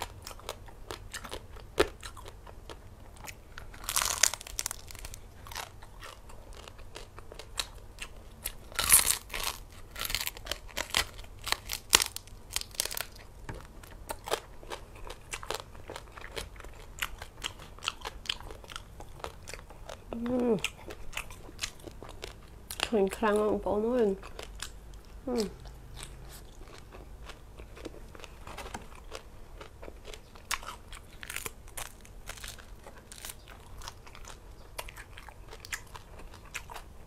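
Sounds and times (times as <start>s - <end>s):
chewing and crunching: 0.0s - 37.0s.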